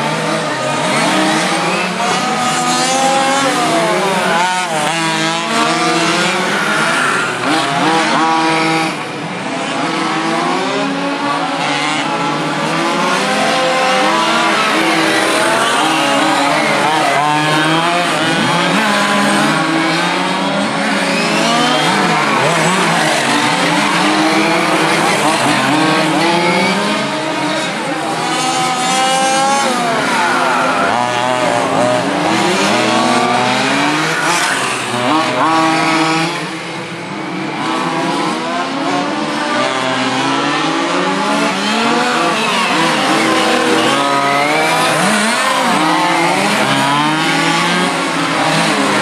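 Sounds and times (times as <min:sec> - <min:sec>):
model racing car motors: 0:00.0 - 0:49.0.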